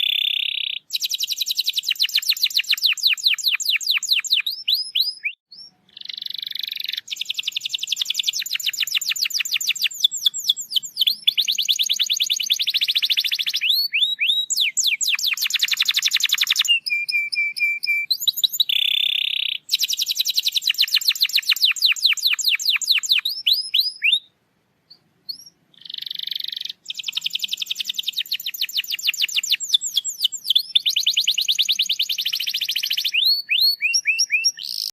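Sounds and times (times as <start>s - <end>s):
canary singing trills: 0.0s - 24.3s, 24.9s - 34.9s.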